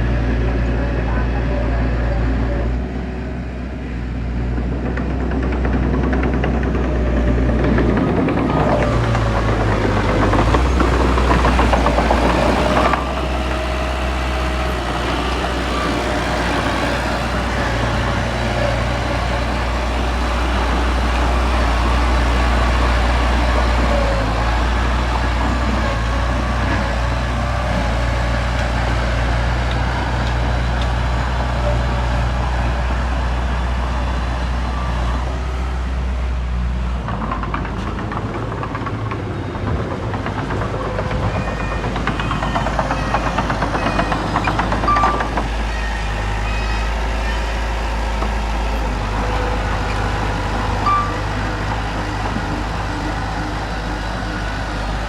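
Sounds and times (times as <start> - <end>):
heavy machine engine droning: 0.0 - 55.0.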